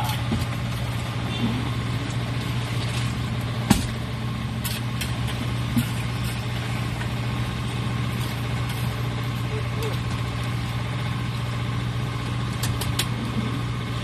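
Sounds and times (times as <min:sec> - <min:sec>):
heavy engine droning: 0:00.0 - 0:14.0.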